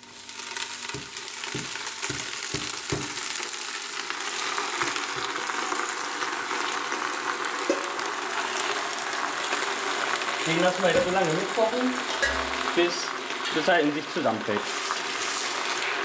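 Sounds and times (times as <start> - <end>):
spinach sizzling in oil: 0.0 - 16.0.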